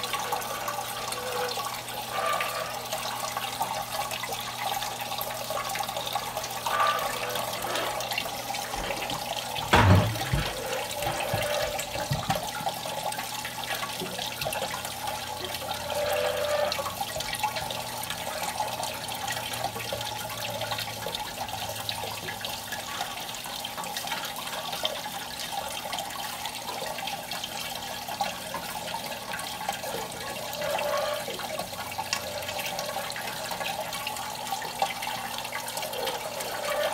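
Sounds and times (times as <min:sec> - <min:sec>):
water pouring and splashing: 0:00.0 - 0:36.9.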